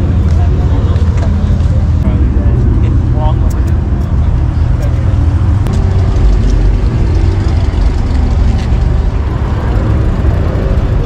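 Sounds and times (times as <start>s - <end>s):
car engines running: 0.0s - 11.0s.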